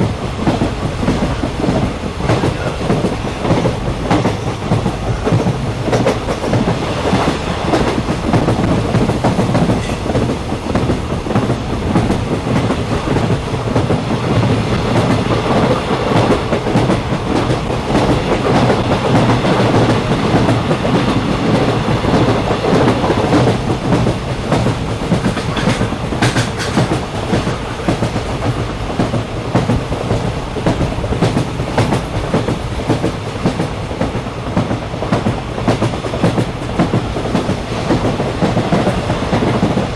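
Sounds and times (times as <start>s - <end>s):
train rumbling on rails: 0.0s - 39.9s
wheels clacking over track: 0.5s - 39.9s.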